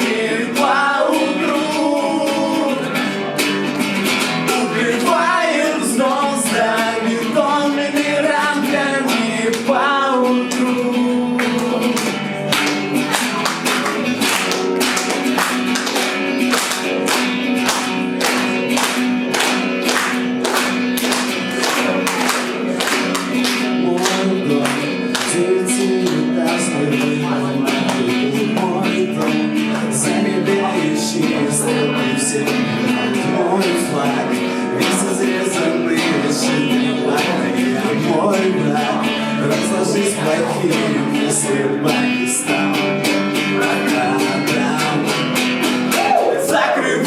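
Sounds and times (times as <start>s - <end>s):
live grunge rock guitar: 0.0s - 47.0s.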